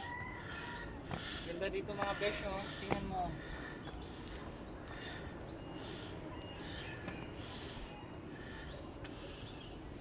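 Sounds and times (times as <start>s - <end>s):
bird calling: 0.0s - 9.8s
low outdoor hum: 0.0s - 10.0s.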